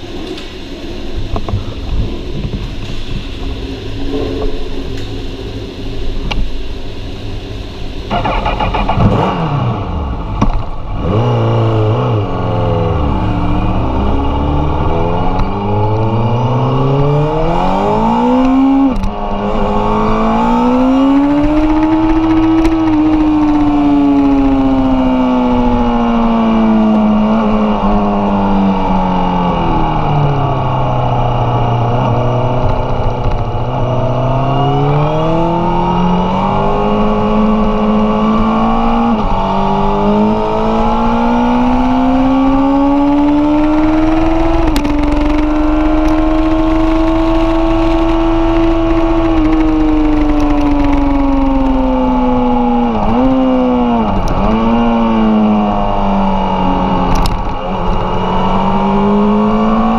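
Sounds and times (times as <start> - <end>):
motorcycle engine revving: 8.0 - 59.9.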